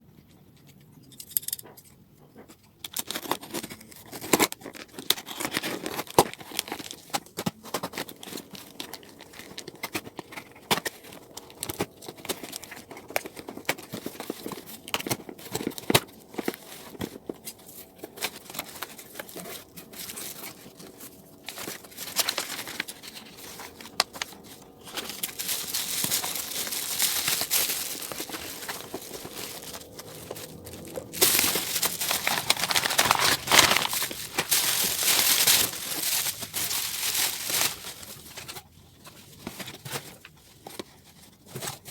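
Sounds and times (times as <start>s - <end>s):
packaging crinkling and tearing: 2.8s - 41.9s.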